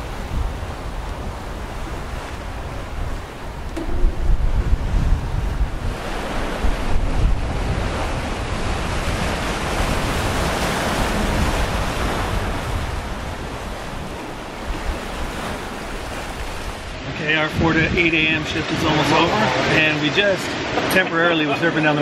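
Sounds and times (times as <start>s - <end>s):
wind rumbling on microphone: 0.0s - 18.9s
rushing foaming boat wake: 0.0s - 22.0s.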